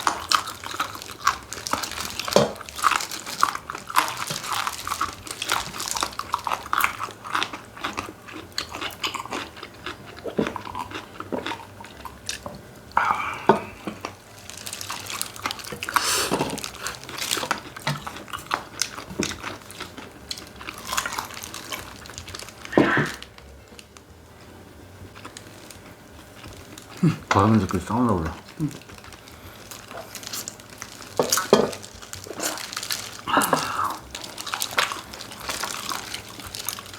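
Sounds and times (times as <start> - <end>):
crunching and chewing food: 0.0 - 36.9.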